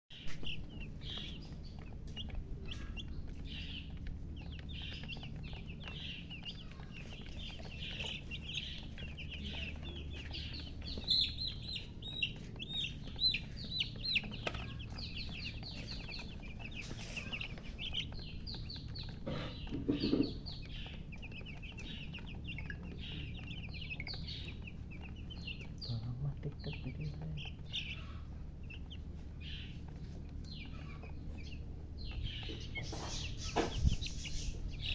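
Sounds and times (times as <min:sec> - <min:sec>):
baby chicks cheeping: 0:00.1 - 0:34.9
steady low hum: 0:00.1 - 0:34.9.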